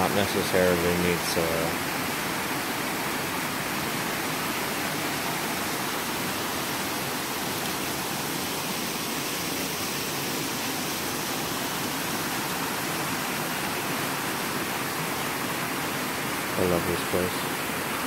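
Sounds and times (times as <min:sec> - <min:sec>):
small waterfall rushing over rocks: 0:00.0 - 0:18.0.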